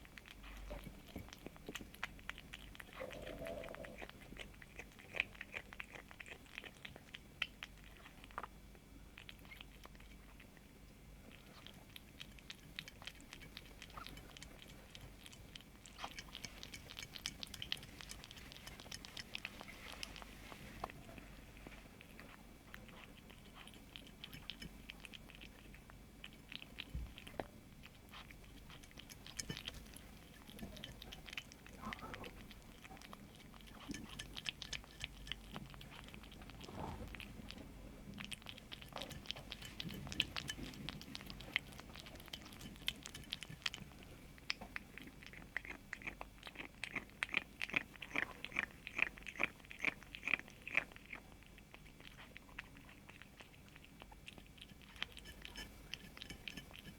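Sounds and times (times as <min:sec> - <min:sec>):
kitten crunching food: 0:00.0 - 0:56.9.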